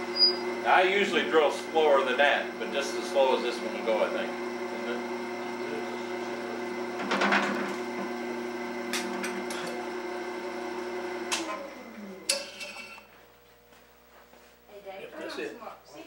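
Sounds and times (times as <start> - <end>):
wood lathe humming: 0.0 - 13.1.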